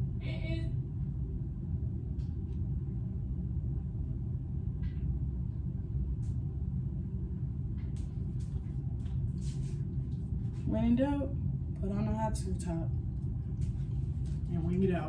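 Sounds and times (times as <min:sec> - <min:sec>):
machine rumbling: 0:00.0 - 0:15.0.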